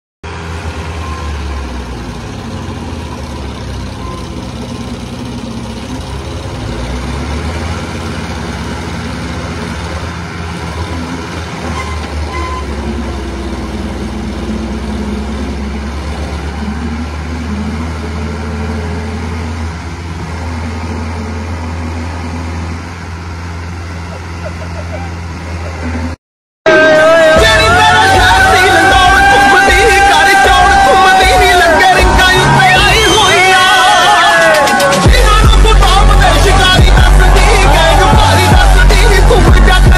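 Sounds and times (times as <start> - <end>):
tractor diesel engines under load: 0.2 - 39.9.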